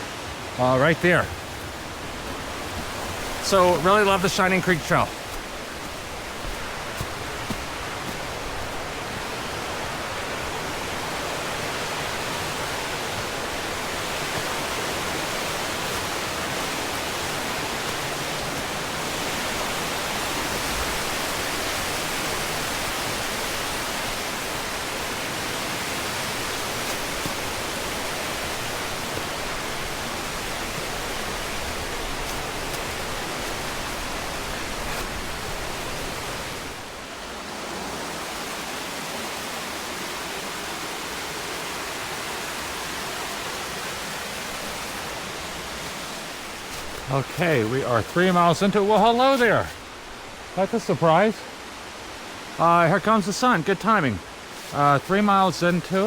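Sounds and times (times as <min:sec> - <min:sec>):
creek rushing over rocks: 0:00.0 - 0:56.0.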